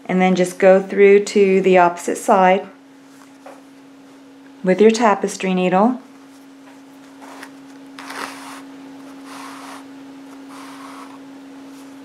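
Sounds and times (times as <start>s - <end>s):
steady humming tone: 0.0s - 12.0s.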